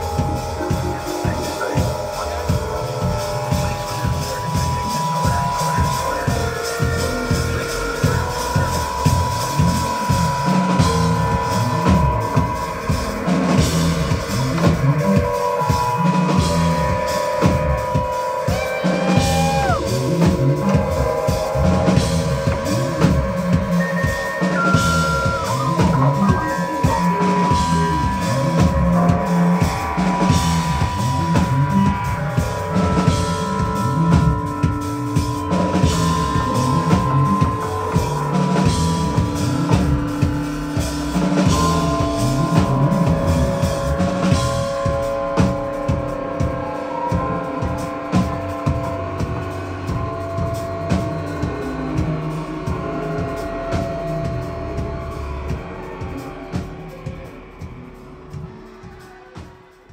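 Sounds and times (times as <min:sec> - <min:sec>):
repeating bass line: 0:00.0 - 0:58.8
long held tone: 0:00.0 - 0:59.2
drum kit steady beat: 0:00.0 - 0:59.9.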